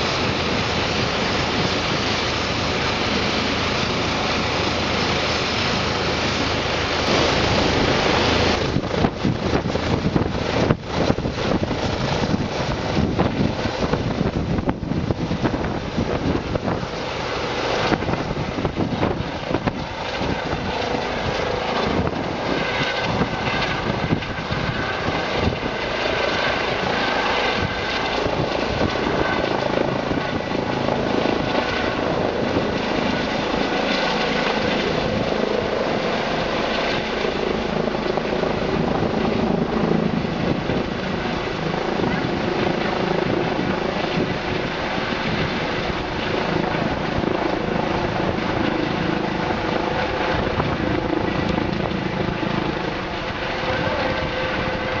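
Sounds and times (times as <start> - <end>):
helicopter rotor chop: 0.0 - 55.0
turbine whine: 0.0 - 55.0.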